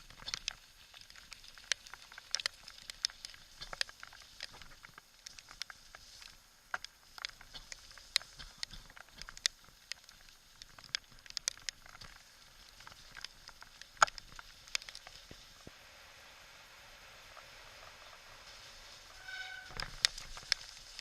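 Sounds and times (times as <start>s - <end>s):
raindrops ticking on hard surface: 0.0s - 21.0s
steady rain hiss: 0.0s - 21.0s.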